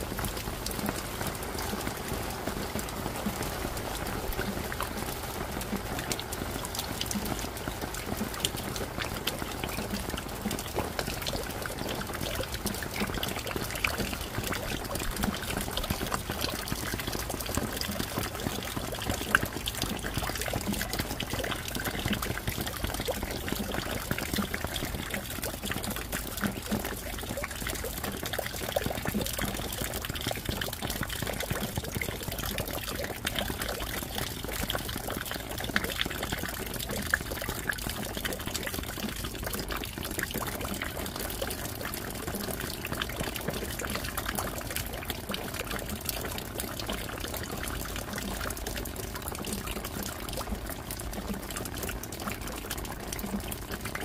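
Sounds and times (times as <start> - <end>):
steady rain falling: 0.0 - 54.0
water drips: 0.0 - 54.0
water trickling and pouring: 0.0 - 54.0.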